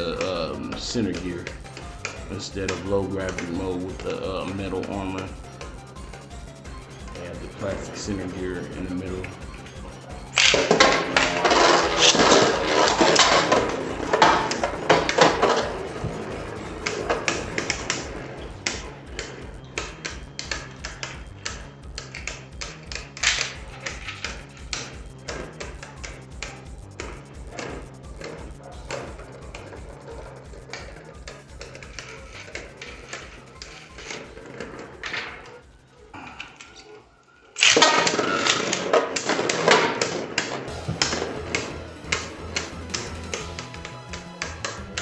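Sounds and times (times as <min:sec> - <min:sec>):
spinning tops clashing: 0:00.0 - 0:35.5, 0:37.6 - 0:45.0.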